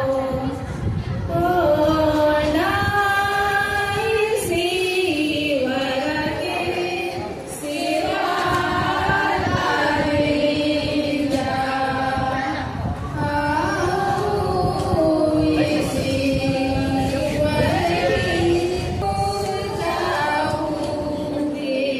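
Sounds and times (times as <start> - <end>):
group singing in unison: 1.3 - 21.9.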